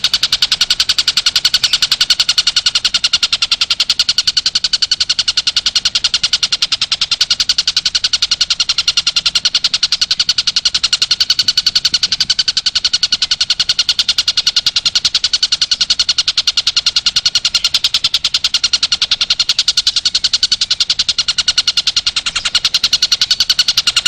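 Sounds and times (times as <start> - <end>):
bird chattering trill: 0.0 - 24.0.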